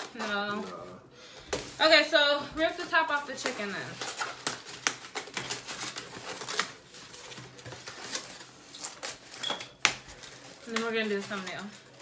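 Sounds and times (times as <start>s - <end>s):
paper packaging crinkling and tearing: 0.0s - 2.0s, 2.6s - 12.0s.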